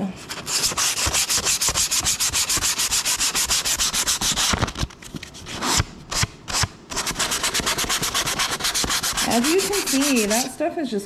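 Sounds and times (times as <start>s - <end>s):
sandpaper rubbing on wood: 0.3s - 4.8s, 5.4s - 10.6s.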